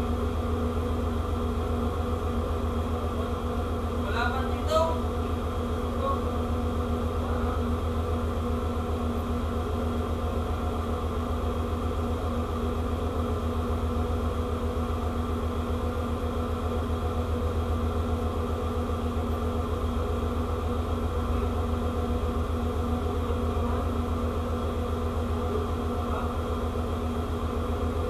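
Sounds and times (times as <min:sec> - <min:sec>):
ship machinery humming: 0:00.0 - 0:28.0.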